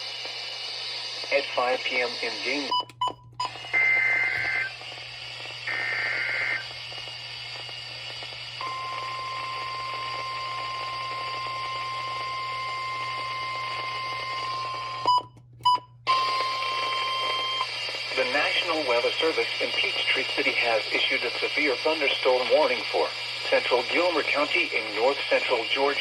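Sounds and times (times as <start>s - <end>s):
radio hiss and hum: 0.0s - 15.2s, 16.1s - 26.0s.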